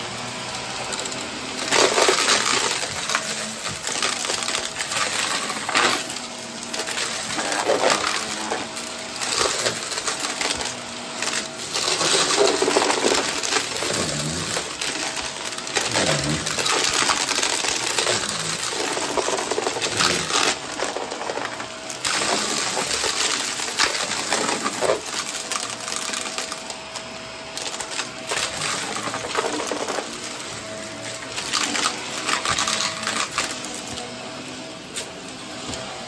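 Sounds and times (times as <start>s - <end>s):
small hard objects clinking: 0.9s - 26.6s, 27.6s - 33.8s.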